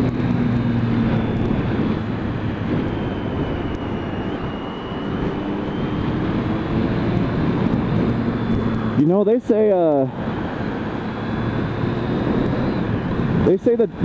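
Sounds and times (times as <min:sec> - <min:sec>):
motorcycle engine running: 0:00.0 - 0:14.0
wind rushing over microphone: 0:00.0 - 0:14.0.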